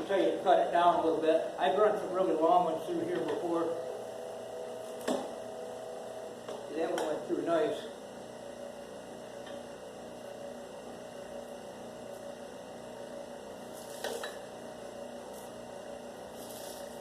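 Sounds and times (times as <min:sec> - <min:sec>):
wire stripper motor humming: 0:00.0 - 0:17.0.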